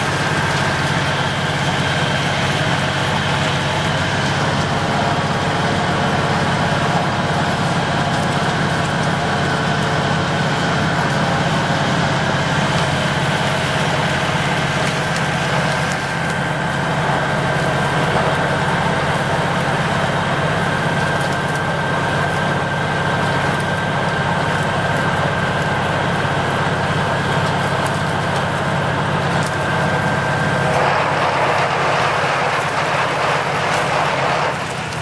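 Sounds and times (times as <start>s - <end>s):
rotary snow blower: 0.0s - 35.0s
thin steady whine: 0.0s - 35.0s
truck engine running: 0.0s - 35.0s.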